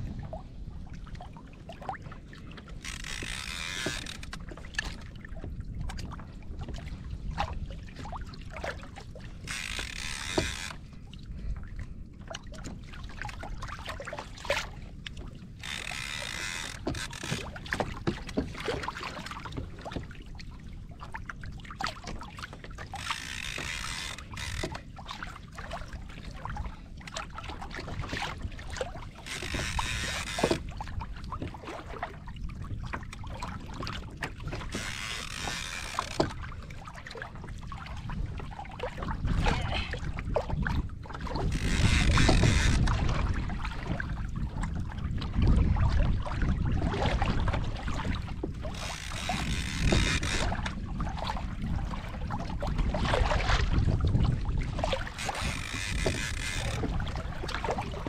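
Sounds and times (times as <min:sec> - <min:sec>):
water around kayak: 0:00.0 - 0:58.0
wind on microphone: 0:00.0 - 0:58.0.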